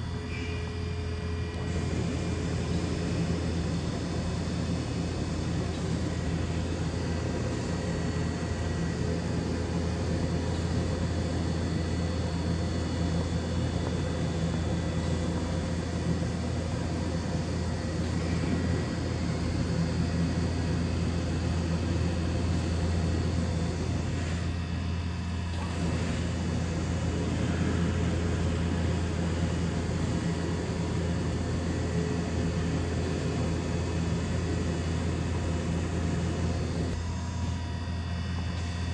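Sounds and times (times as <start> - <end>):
faint machine whines: 0.0 - 38.9
low machine hum: 0.0 - 38.9.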